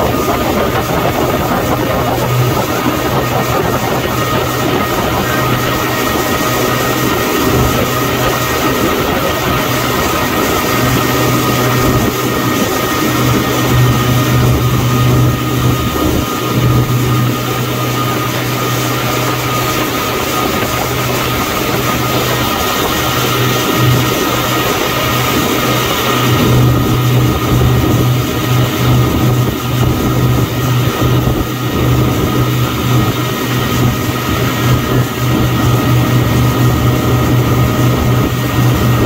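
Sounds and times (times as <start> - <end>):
motorboat engine drone: 0.0 - 39.0
water splashing in wake: 0.0 - 39.0.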